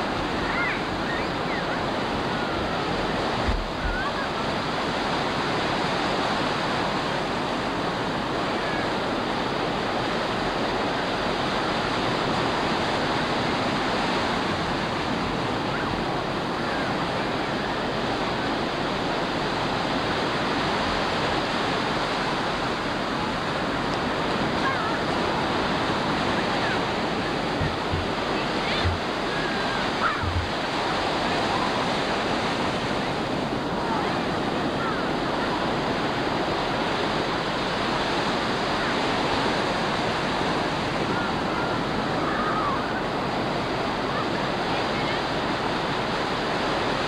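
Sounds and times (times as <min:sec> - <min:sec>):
ocean surf breaking: 0:00.0 - 0:47.0.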